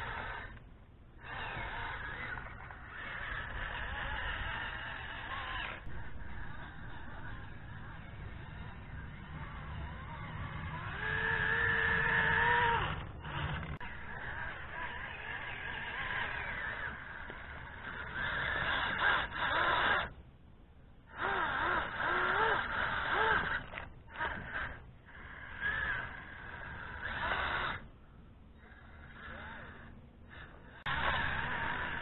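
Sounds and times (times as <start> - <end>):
electric toy car motor whirring: 0.0 - 20.2, 21.1 - 27.9, 28.5 - 32.0.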